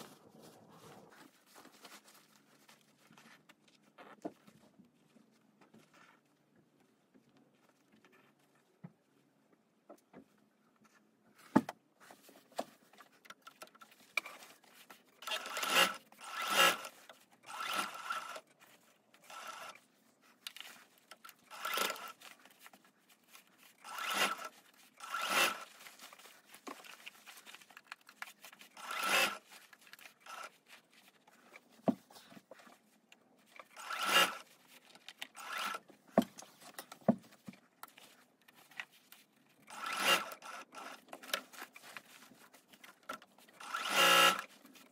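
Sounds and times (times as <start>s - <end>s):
fabric rustling and rubbing: 0.0s - 9.3s, 13.8s - 39.7s, 41.2s - 43.6s.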